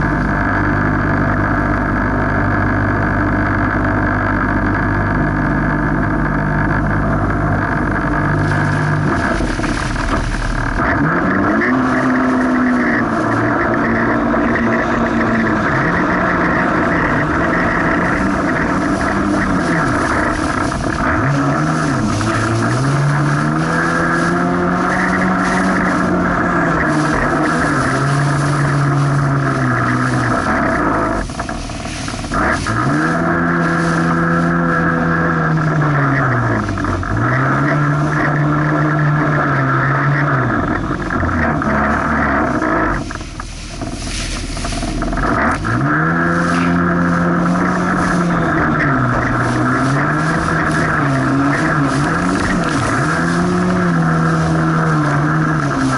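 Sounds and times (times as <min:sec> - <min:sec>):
jet ski engine revving: 0:00.0 - 0:55.9
rush of wind and water: 0:07.6 - 0:55.9.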